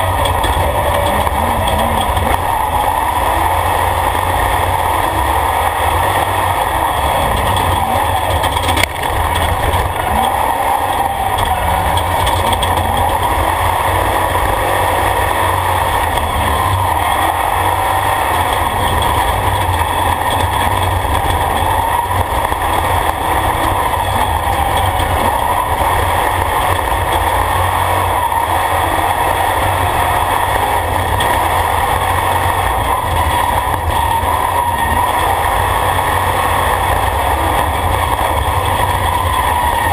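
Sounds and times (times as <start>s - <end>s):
race vehicle engine: 0.0s - 39.9s
road noise on gravel: 0.0s - 39.9s.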